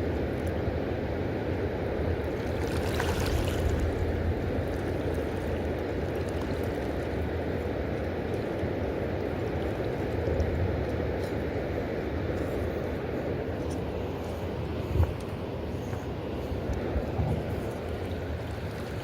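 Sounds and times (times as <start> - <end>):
river water flowing below a dam: 0.0 - 19.0.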